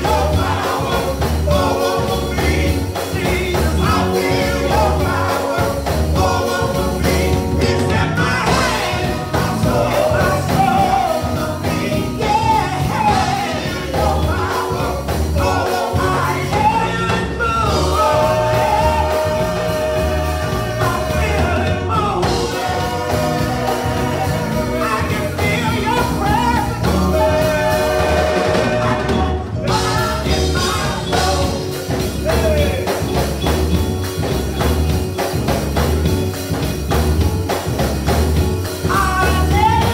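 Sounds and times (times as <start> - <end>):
accompaniment with steady beat: 0.0 - 39.9
group singing gospel song: 0.0 - 39.9.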